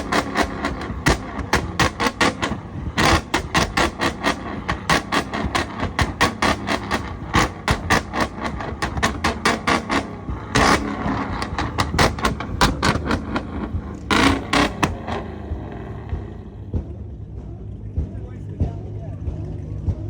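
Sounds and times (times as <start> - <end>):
sharp bangs or cracks: 0.0 - 16.2.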